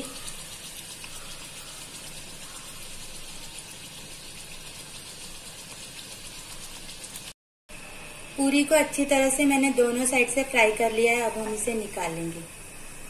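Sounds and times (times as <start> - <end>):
oil sizzling in a pan: 0.0 - 7.4, 8.5 - 13.0.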